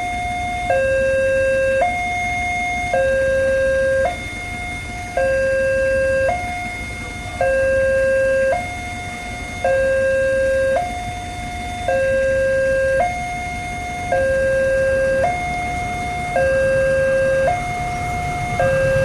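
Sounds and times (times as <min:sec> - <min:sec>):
two-tone level crossing siren: 0:00.0 - 0:19.0.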